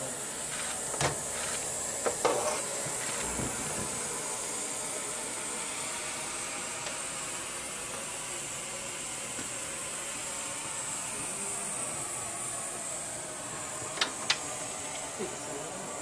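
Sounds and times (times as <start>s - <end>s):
hiss of gas flowing through hoses: 0.0s - 16.0s.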